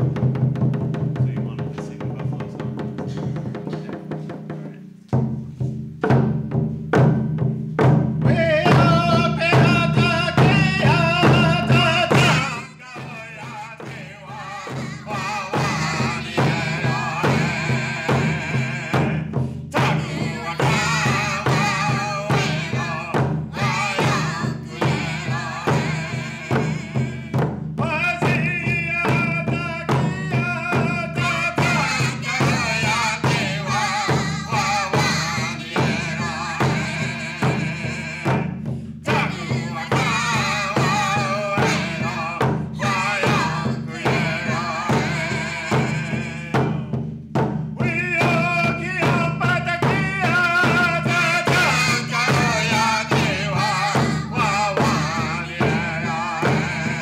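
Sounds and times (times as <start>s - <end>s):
steady drumbeat: 0.0s - 57.0s
group singing in unison: 8.2s - 47.0s, 47.8s - 57.0s.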